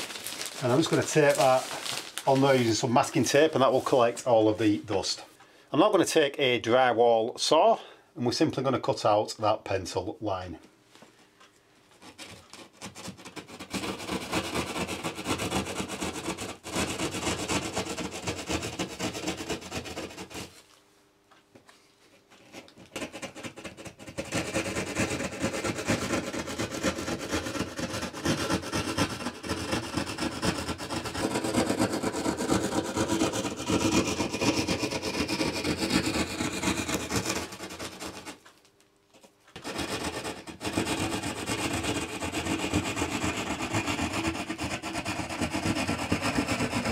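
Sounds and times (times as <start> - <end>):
hand saw cutting plasterboard: 0.0 - 5.2, 11.9 - 20.7, 22.2 - 38.5, 39.6 - 46.9.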